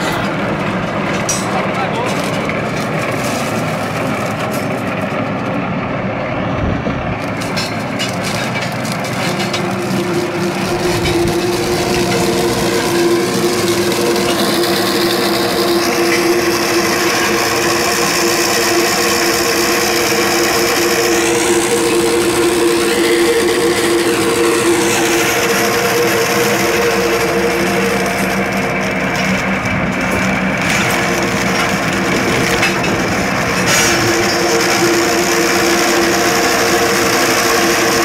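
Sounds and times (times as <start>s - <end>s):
steady machine drone: 0.0s - 38.0s
tractor running under load: 0.0s - 38.0s
rock crusher breaking ground: 7.2s - 38.0s.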